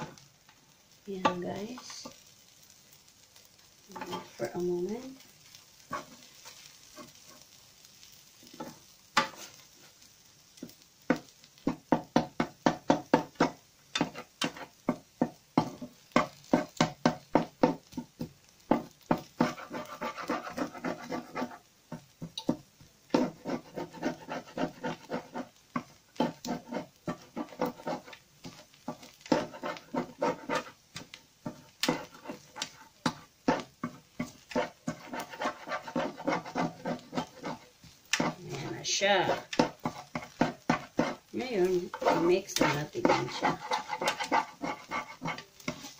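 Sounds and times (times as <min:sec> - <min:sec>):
spatula scraping frying pan: 0:00.0 - 0:00.2, 0:03.4 - 0:45.9
faint sizzling: 0:00.0 - 0:45.9.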